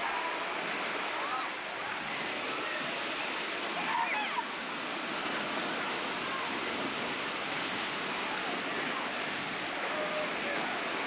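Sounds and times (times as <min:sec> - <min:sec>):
water rushing down a chute: 0:00.0 - 0:11.0.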